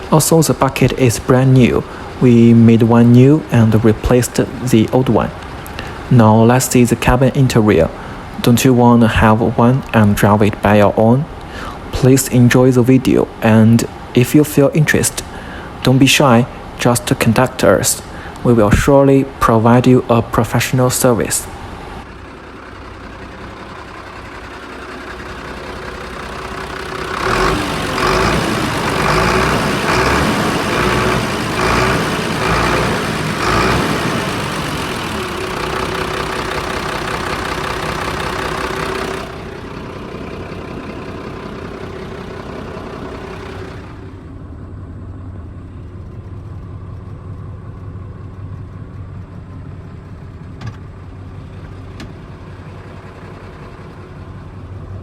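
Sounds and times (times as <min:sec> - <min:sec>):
diesel truck engine revving: 0:00.0 - 0:55.0.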